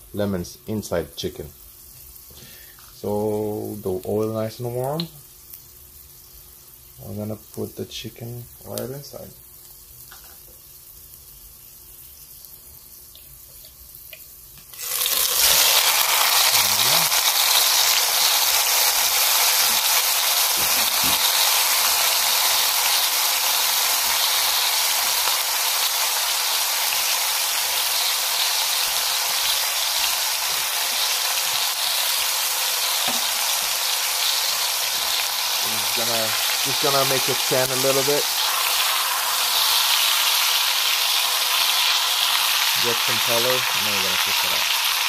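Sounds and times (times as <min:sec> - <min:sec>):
chicken sizzling in hot oil: 0:00.8 - 0:45.0.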